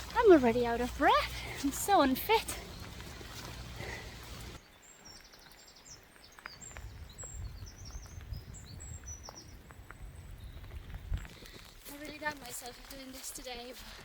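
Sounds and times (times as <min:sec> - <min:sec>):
small birds chirping and trilling: 0:00.0 - 0:11.6.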